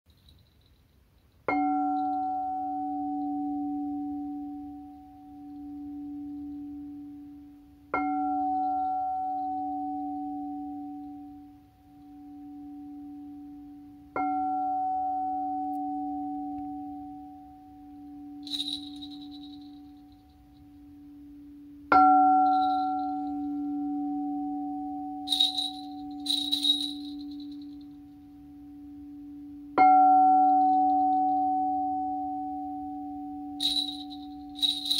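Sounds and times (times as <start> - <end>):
crystal singing bowl ringing: 1.4 - 11.5, 12.1 - 34.9.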